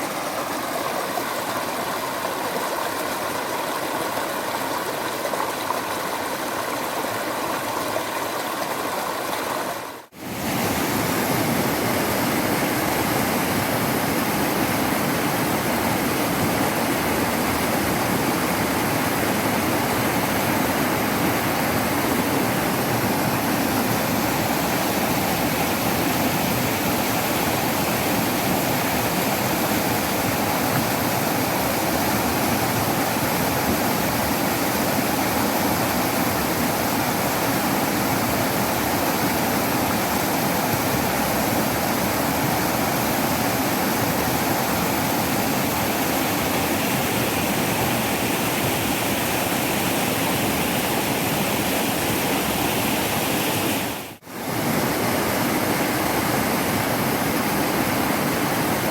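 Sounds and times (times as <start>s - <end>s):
waterfall water rushing: 0.0s - 58.9s.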